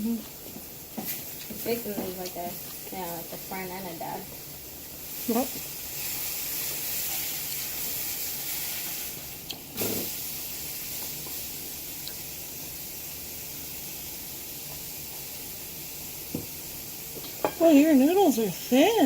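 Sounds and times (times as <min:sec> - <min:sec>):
burgers sizzling in a frying pan: 0:00.0 - 0:19.0.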